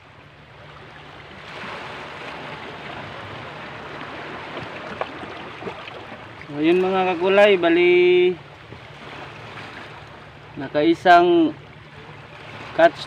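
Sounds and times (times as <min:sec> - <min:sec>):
sea surf on rocky shore: 0:00.0 - 0:13.0.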